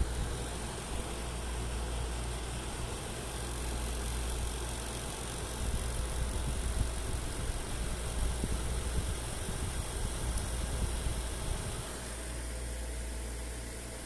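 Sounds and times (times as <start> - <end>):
cooling fans rattling: 0.0 - 14.0
steady low hum: 0.0 - 14.0.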